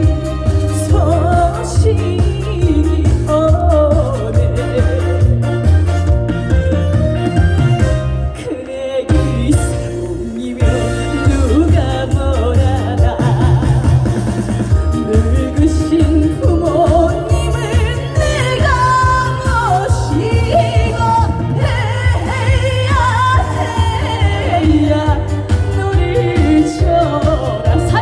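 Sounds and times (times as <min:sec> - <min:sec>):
woman singing with vibrato: 0:00.0 - 0:06.2, 0:07.8 - 0:28.0
band backing track with bass beat: 0:00.0 - 0:28.0.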